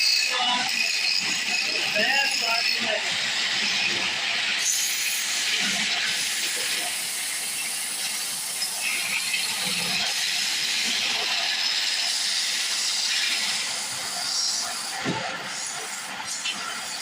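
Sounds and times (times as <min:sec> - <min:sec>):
wood lathe cutting with shearing hiss: 0:00.0 - 0:17.0.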